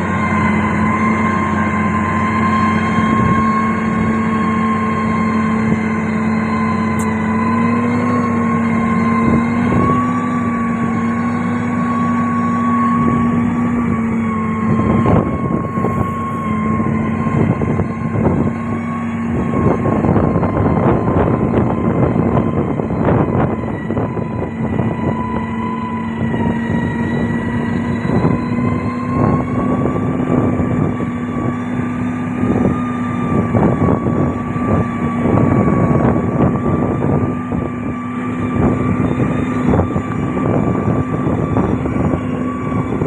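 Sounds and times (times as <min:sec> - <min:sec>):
construction machinery engine whine: 0:00.0 - 0:43.0.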